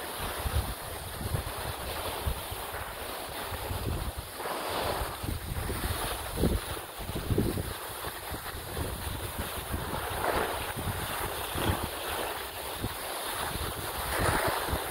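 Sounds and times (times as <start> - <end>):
skis sliding on packed snow: 0.0 - 14.9
wind rushing over microphone: 0.0 - 14.9.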